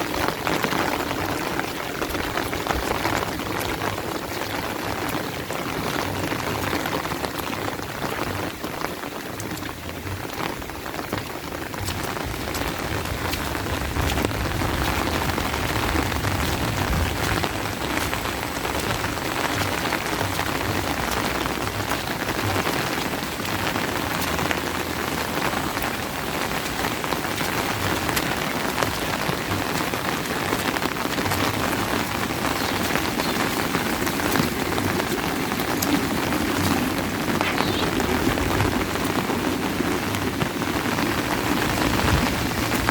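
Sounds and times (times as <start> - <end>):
raindrops ticking: 0.0 - 42.9
steady rain: 0.0 - 42.9.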